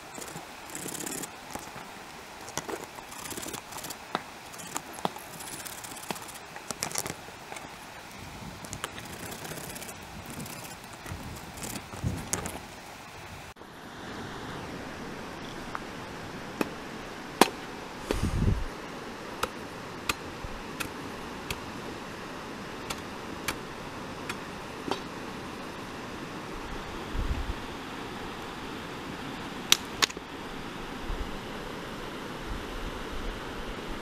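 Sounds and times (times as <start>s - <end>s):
fast-flowing river water: 0.0s - 34.0s.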